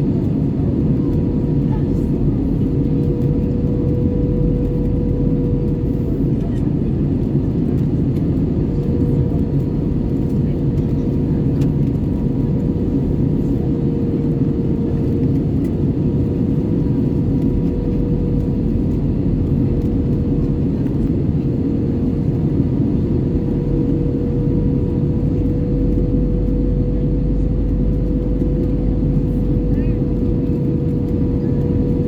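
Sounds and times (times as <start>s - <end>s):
airplane cabin airflow rush: 0.0s - 32.0s.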